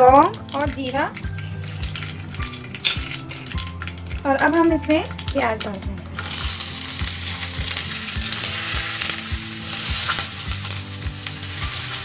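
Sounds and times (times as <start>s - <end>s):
onions sizzling in oil: 0.0s - 12.0s
spatula stirring: 0.3s - 12.0s.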